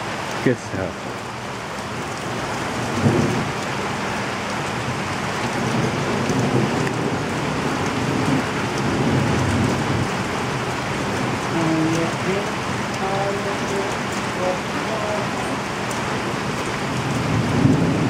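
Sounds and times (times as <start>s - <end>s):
heavy rain pouring: 0.0s - 18.0s
thunder rumbling: 2.2s - 18.0s.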